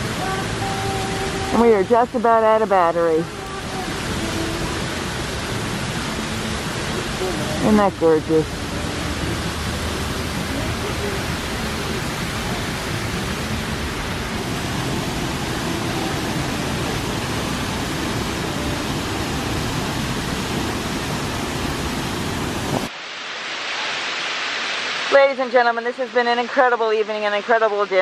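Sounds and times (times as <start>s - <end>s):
fountain water splashing: 0.0s - 28.0s.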